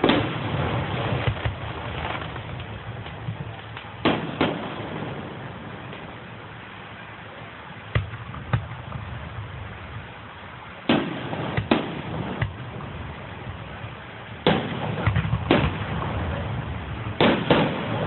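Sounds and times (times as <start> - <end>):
fireworks bangs: 0.0 - 6.5, 7.8 - 10.2, 10.8 - 18.0
background rumble: 0.0 - 18.0.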